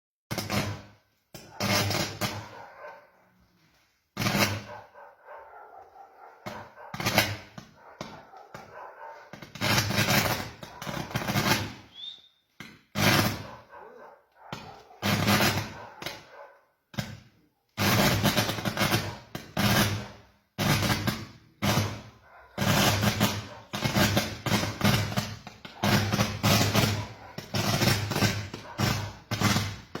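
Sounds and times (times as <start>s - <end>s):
fireworks banging: 0.3s - 3.2s, 3.8s - 5.0s, 5.8s - 13.7s, 14.4s - 30.0s.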